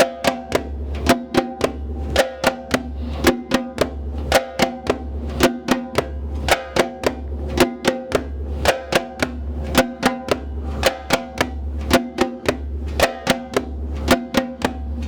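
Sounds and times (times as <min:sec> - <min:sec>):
hand drum slaps and tones: 0:00.0 - 0:15.0.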